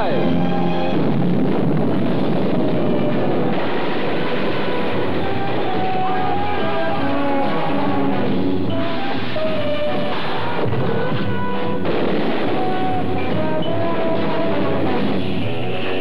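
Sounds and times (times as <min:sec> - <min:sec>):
film trailer music: 0:00.0 - 0:16.0.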